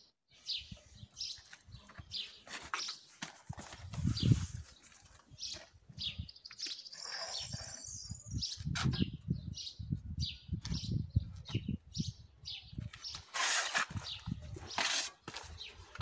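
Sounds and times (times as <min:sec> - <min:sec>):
small birds chirping: 0:00.3 - 0:16.0.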